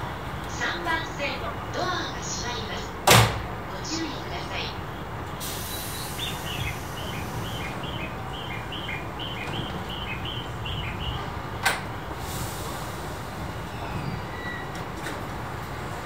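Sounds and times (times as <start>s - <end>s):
train humming: 0.0s - 16.0s.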